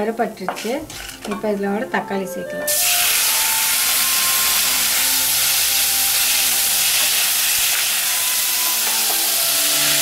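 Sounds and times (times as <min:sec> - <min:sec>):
tomatoes frying in oil: 0:00.0 - 0:02.1, 0:02.7 - 0:10.0.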